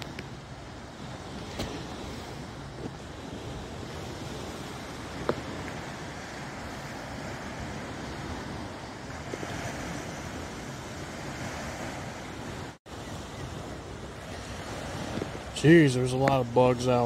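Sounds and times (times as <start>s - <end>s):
small waves washing onto sand: 0.0s - 17.0s
wind on microphone: 0.0s - 17.0s.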